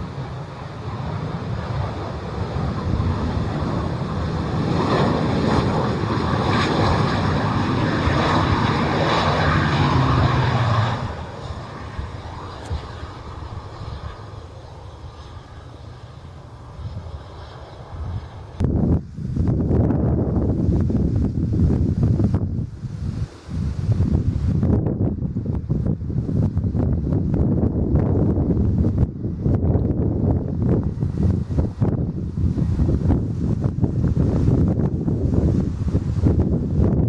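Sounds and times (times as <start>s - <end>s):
jet engines passing: 0.0s - 37.0s
wind-like rush: 0.0s - 37.0s.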